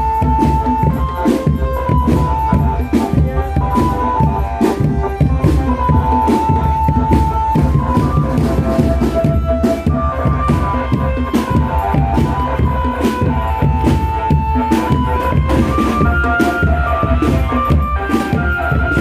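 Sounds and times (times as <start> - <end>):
drums fast rhythm: 0.0 - 19.0
melody of held notes: 0.0 - 19.0.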